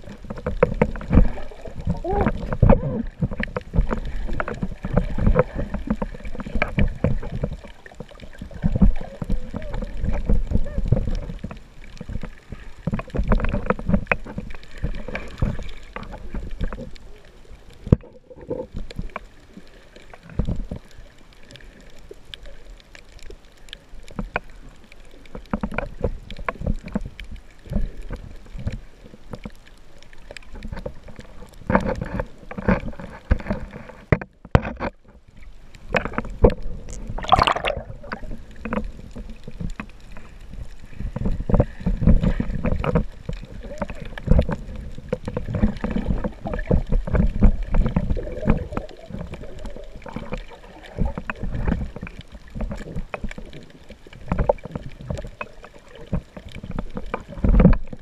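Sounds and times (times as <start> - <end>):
underwater sloshing and bubbling: 0.0 - 58.0.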